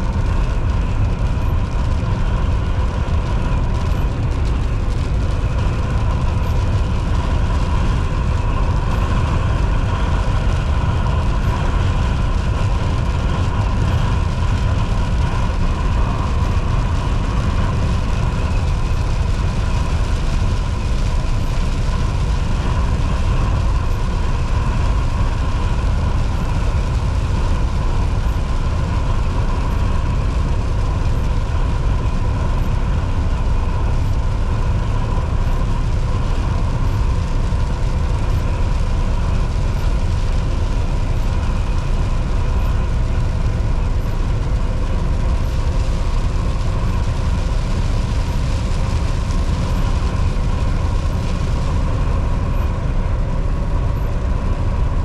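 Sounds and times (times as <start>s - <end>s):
steady whine: 0.0s - 55.0s
truck engine and road rumble: 0.0s - 55.0s.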